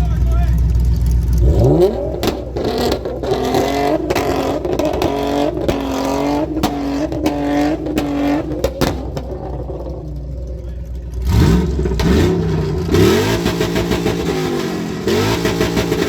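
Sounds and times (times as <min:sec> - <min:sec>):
sharp engine cracks: 0:00.6 - 0:14.2
car engine revving hard: 0:01.3 - 0:10.5, 0:11.2 - 0:16.0.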